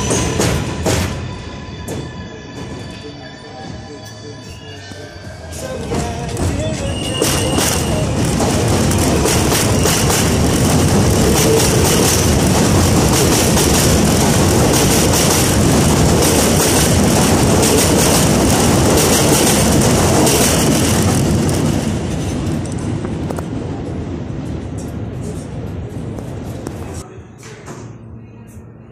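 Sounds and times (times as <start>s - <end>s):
subway train rolling past: 0.0s - 28.9s.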